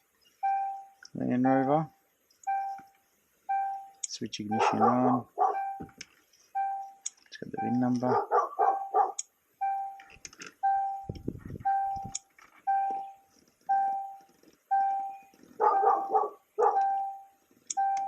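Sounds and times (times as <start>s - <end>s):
vehicle warning chime beeping: 0.4s - 18.0s.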